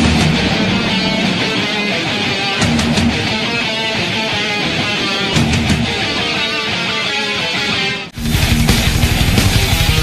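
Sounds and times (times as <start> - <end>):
distorted electric guitar: 0.0 - 10.0
drums: 0.0 - 10.0
heavy rock music: 0.0 - 10.0.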